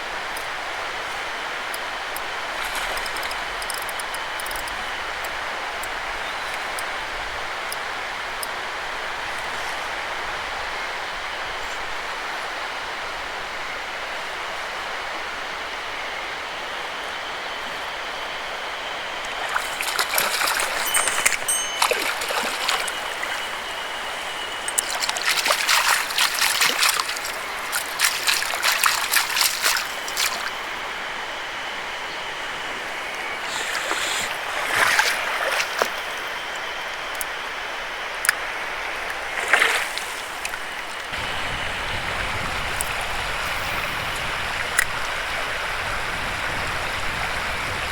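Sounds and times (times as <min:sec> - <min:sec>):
mountain stream flowing: 0:00.0 - 0:47.9.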